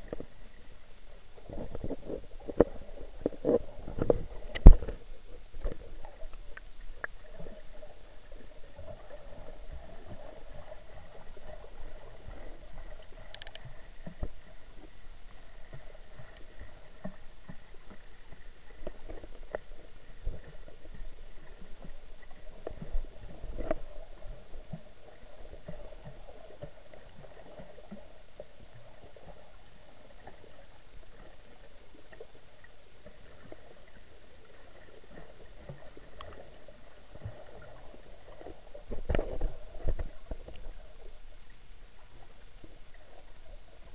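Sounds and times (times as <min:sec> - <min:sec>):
small underwater clicks and knocks: 0:00.0 - 0:43.9
underwater gurgling rumble: 0:00.0 - 0:43.9.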